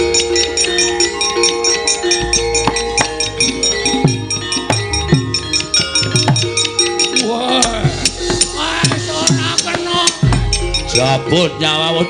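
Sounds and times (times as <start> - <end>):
sharp metallic clacks: 0.0 - 11.2
hand-drum strokes: 0.0 - 11.5
sustained metallophone notes: 0.0 - 12.0.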